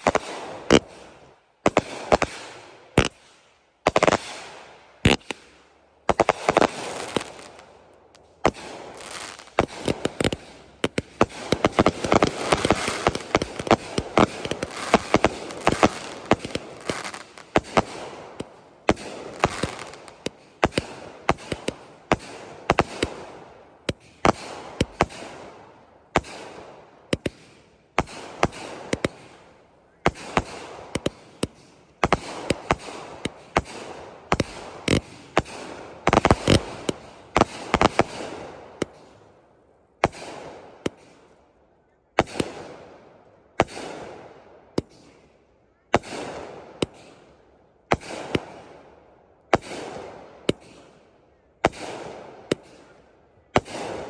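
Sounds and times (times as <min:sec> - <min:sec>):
fireworks firing: 0:00.0 - 0:39.4, 0:40.0 - 0:41.3, 0:42.2 - 0:43.0, 0:43.6 - 0:45.2, 0:46.0 - 0:54.0.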